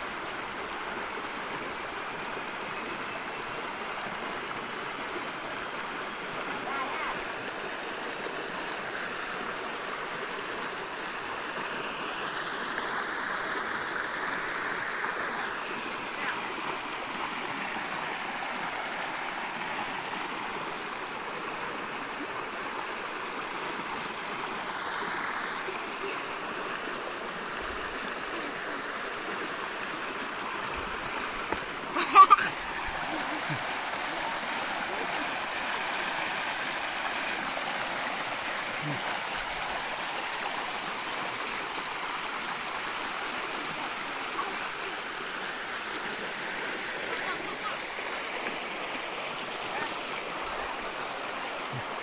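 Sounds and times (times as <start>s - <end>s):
stream rushing over rocks: 0.0s - 52.0s.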